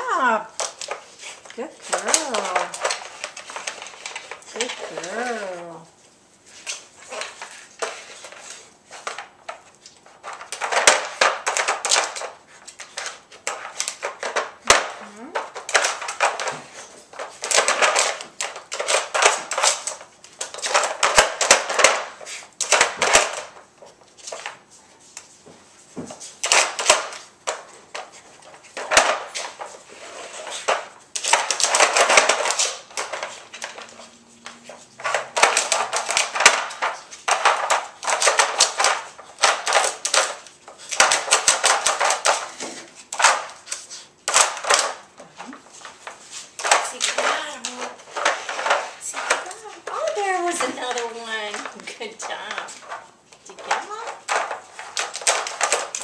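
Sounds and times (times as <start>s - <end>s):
plastic feeder clattering on tile: 0.2s - 5.6s, 6.6s - 23.6s, 26.0s - 56.0s.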